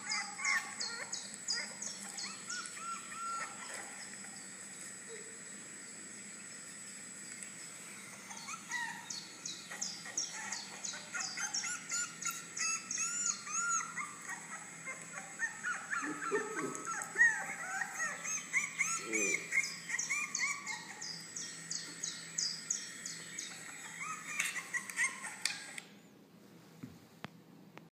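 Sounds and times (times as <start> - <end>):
puppies yipping and whimpering: 0.0 - 5.3, 7.9 - 26.1.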